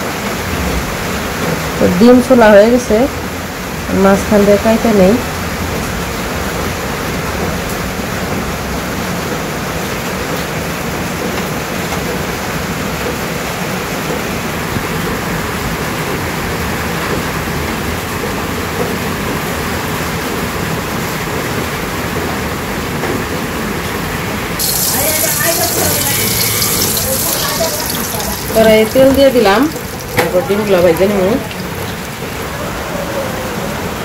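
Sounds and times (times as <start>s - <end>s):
heavy rain on a tin roof: 0.0s - 34.0s.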